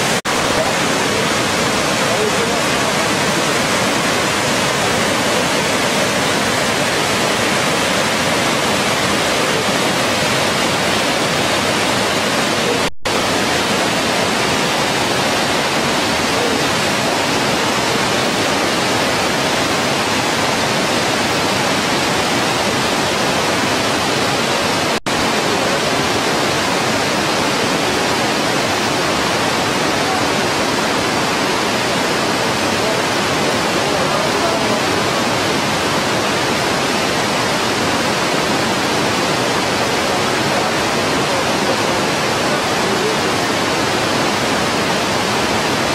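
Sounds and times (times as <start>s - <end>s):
waterfall and river rapids: 0.0s - 45.9s.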